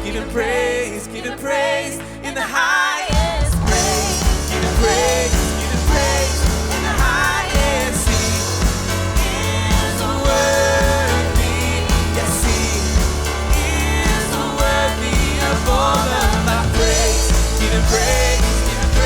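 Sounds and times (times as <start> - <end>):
people singing: 0.0 - 19.0
piano: 0.0 - 19.0
bass and drums: 3.1 - 19.0.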